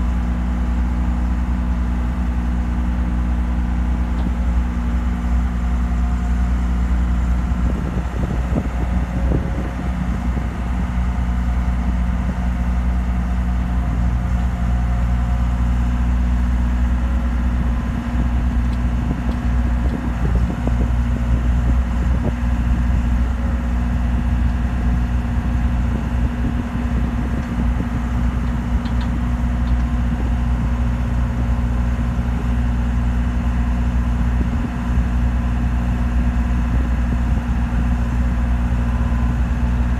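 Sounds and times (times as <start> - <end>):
heavy equipment engine idling: 0.0 - 39.9.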